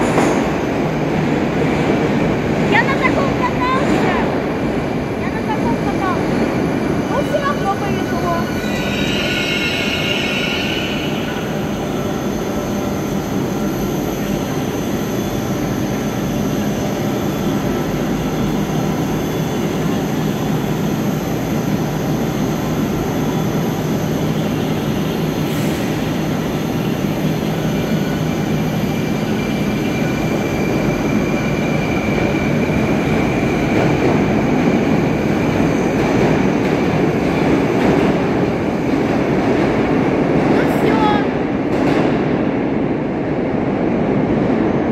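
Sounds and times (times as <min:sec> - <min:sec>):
metro train humming: 0:00.0 - 0:44.9
train running noise: 0:00.0 - 0:44.9.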